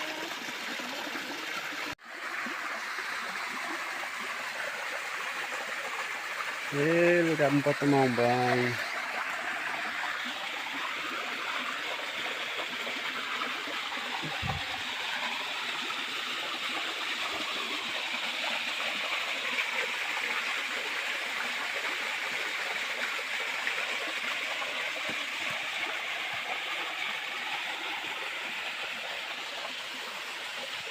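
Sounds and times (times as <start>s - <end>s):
small waterfall splashing: 0.0s - 30.9s.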